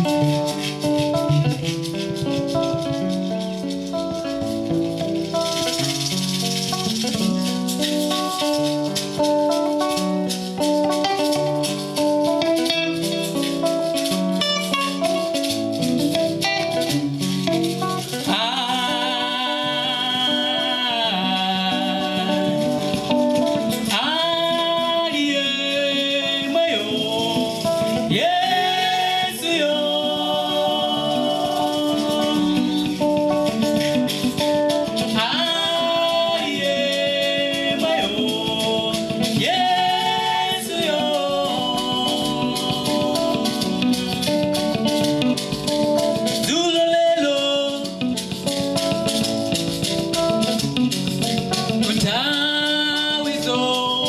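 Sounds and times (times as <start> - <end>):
person singing: 0.0 - 49.3, 51.4 - 54.0
plucked guitar: 0.0 - 54.0
shaker rattle: 0.0 - 54.0.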